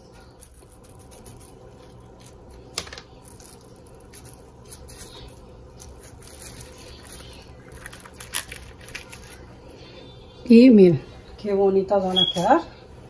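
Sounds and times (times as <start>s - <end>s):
plastic wrap and dough rustling: 0.0s - 12.7s.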